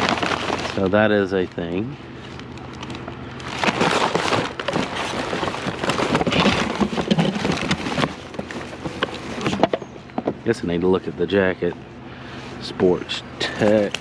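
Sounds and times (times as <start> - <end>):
junk crackling and rustling: 0.0 - 14.0
steady low hum: 0.0 - 14.0.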